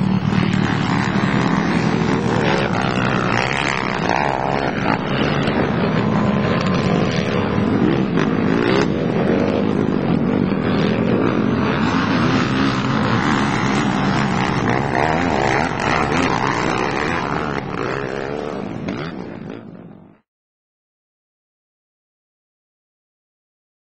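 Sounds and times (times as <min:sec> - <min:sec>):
atv engines racing: 0:00.0 - 0:20.2.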